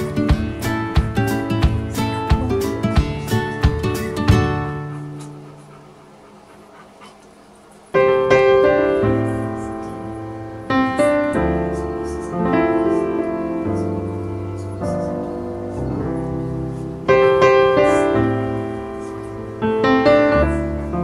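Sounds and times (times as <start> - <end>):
piano chords ringing: 0.0 - 5.6, 7.9 - 21.0.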